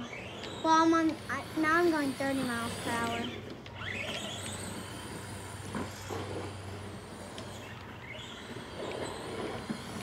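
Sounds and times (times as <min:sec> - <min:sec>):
rc car motor whining: 0:00.0 - 0:10.0
steady low hum: 0:00.0 - 0:10.0.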